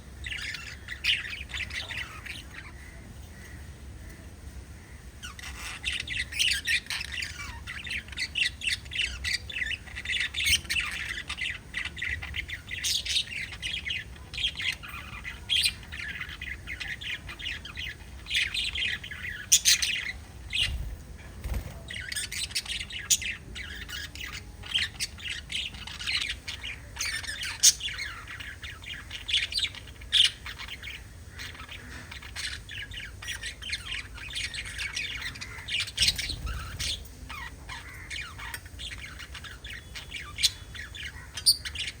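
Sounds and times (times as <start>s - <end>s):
budgerigars chattering: 0.2s - 4.2s, 4.8s - 42.0s.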